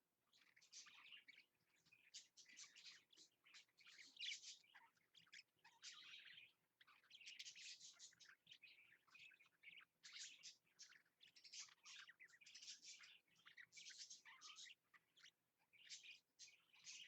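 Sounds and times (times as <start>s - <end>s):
budgerigars chattering and chirping: 0.3s - 17.0s.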